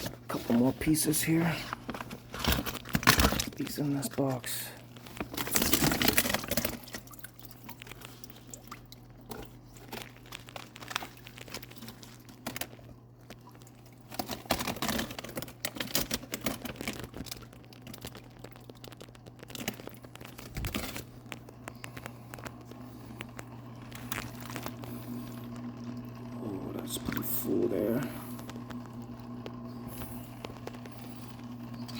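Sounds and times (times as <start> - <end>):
packaging crinkling: 0.0 - 31.9
steady low hum: 0.0 - 31.9.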